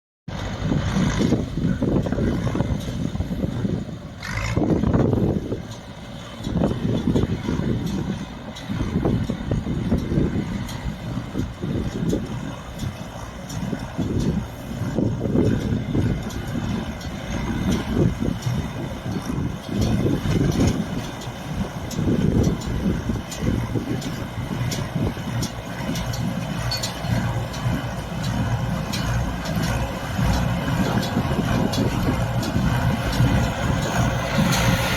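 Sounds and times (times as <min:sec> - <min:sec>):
baler mechanical rumble: 0:00.3 - 0:34.9
tractor engine drone: 0:00.3 - 0:34.9.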